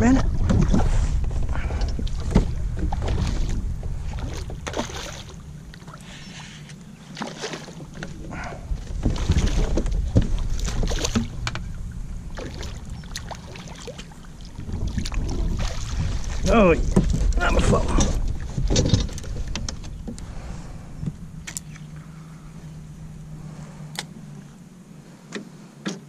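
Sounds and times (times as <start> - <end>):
wind rumbling on microphone: 0.0 - 25.7.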